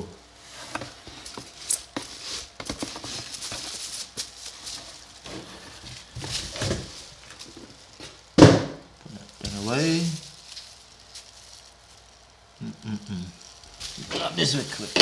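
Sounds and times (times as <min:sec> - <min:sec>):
packaging crinkling: 0:00.7 - 0:12.6, 0:13.4 - 0:15.0.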